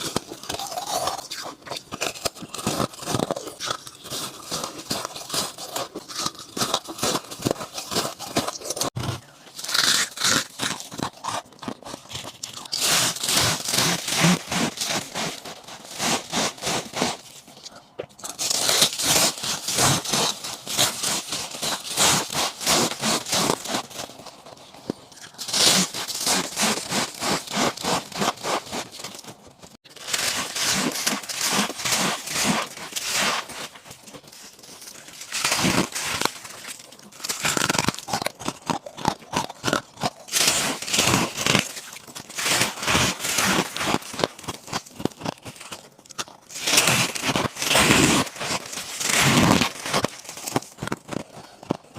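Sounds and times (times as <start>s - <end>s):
ice crunching between teeth: 0.0s - 51.9s.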